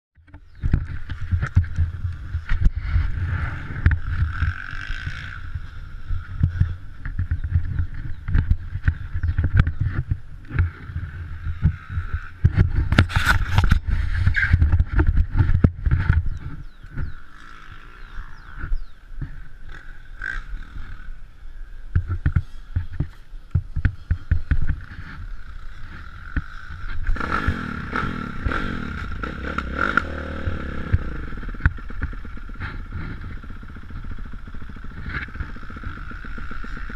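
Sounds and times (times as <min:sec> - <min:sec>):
motocross bike engine revving: 0:00.5 - 0:23.1, 0:24.0 - 0:36.9.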